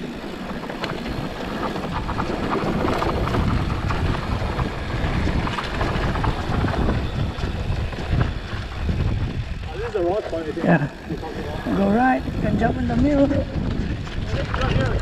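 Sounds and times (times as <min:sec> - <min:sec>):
bike clicks and rattles: 0:00.0 - 0:15.0
bike tyres rolling on dirt: 0:00.0 - 0:15.0
wind buffeting microphone: 0:00.0 - 0:15.0.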